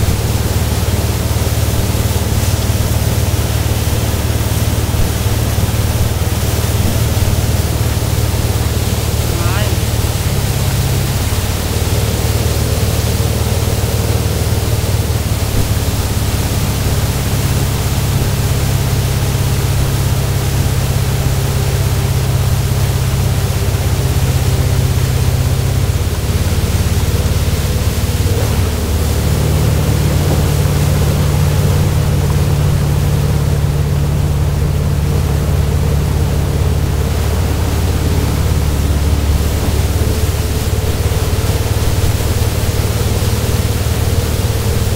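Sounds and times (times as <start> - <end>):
boat engine droning: 0.0 - 44.9
churning wake water: 0.0 - 44.9.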